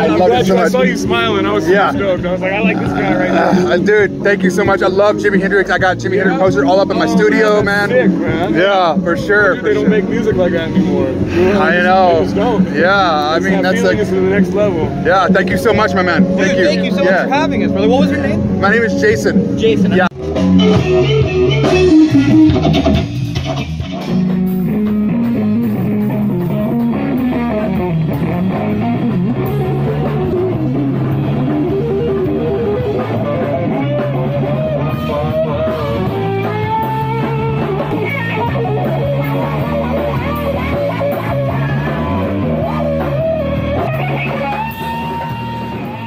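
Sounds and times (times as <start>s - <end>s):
electric guitar lead: 0.0s - 46.0s
rock band playing: 0.0s - 46.0s.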